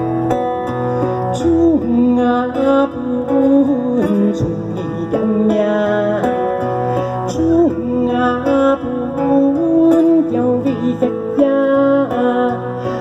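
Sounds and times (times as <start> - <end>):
plucked acoustic guitar: 0.0 - 13.0
man singing: 1.0 - 13.0.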